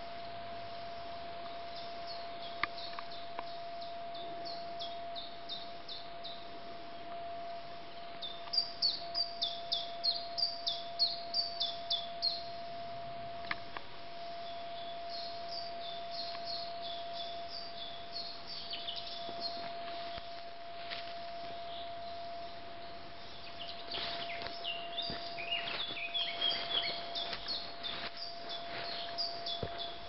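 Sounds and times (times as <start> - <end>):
songbird chirping: 0.0 - 30.0.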